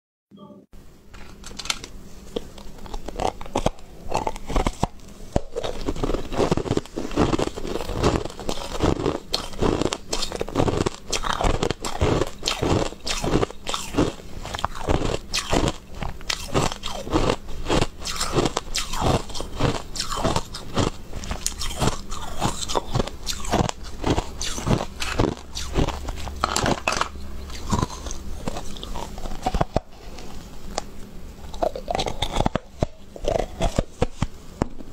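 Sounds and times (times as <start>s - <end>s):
crunching and chewing: 1.9s - 34.7s.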